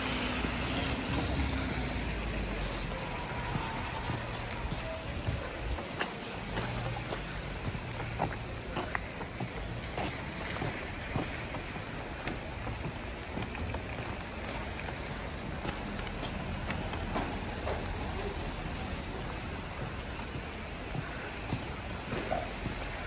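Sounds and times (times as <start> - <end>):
distant traffic: 0.0 - 23.0
light clicks and drips: 0.8 - 23.0.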